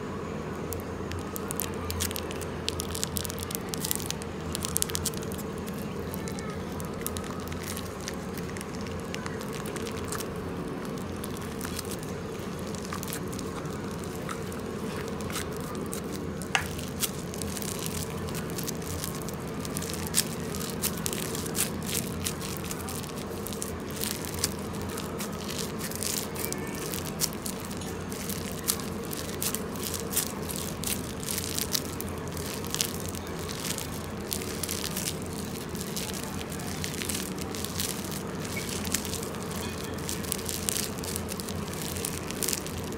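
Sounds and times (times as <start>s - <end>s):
steady low hum: 0.0s - 42.9s
slime crackles and pops: 0.6s - 42.9s.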